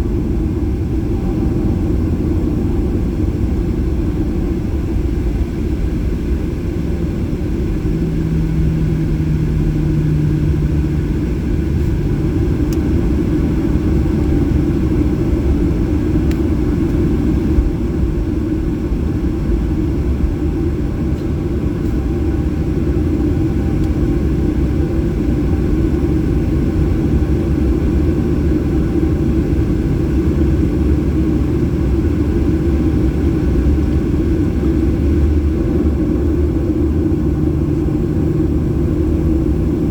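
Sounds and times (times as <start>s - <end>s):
jet engine rumble in cabin: 0.0s - 39.9s
low hum: 0.0s - 39.9s.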